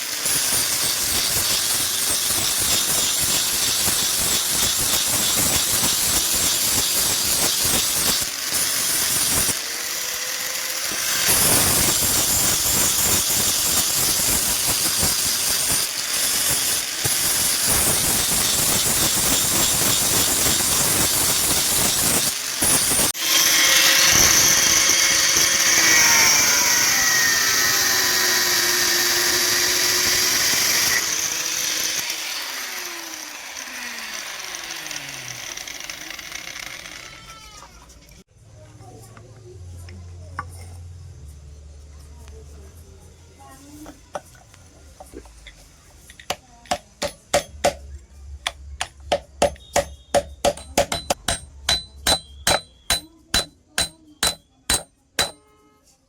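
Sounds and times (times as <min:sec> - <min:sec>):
power tool grinding: 0:00.0 - 0:37.2, 0:46.1 - 0:47.8, 0:48.4 - 0:55.4.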